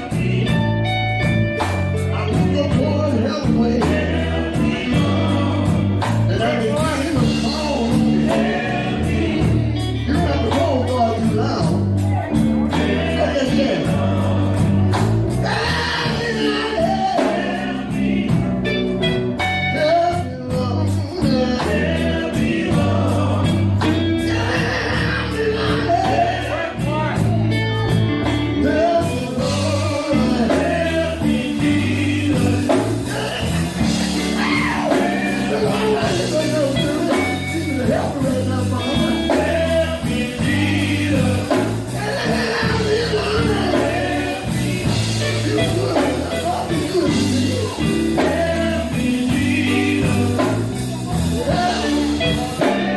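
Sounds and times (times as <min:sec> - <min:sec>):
band with pulsing bass: 0:00.0 - 0:52.9
rhythmic percussion: 0:00.0 - 0:52.9
voices singing gospel: 0:00.0 - 0:52.9.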